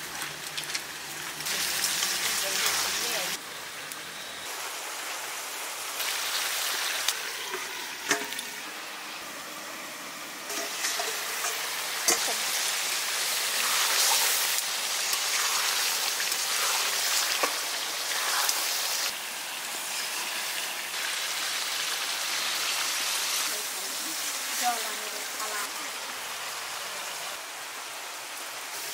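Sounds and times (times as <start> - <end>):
curry sizzling in a pan: 0.0 - 28.9.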